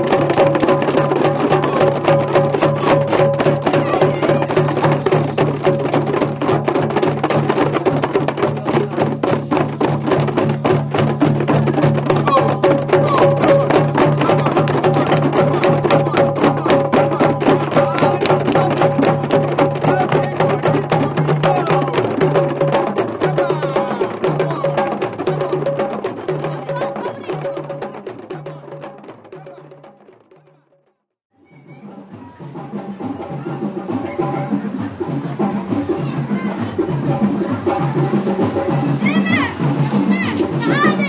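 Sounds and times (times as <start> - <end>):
group playing djembe drums: 0.0 - 41.0.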